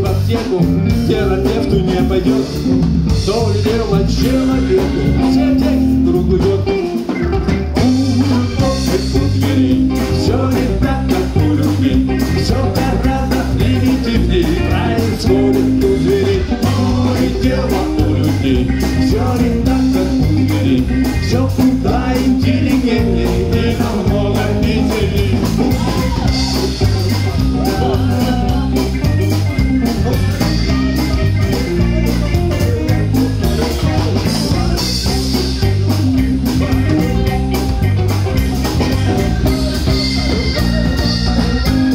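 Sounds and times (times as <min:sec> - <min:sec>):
bass guitar: 0:00.0 - 0:41.9
drum kit beat: 0:00.0 - 0:41.9
guitar: 0:00.0 - 0:41.9.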